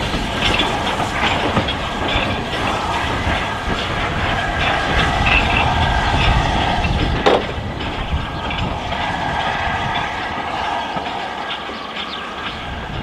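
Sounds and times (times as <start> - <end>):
steam locomotive hissing: 0.0 - 13.0
wheels rumbling on track: 0.0 - 13.0.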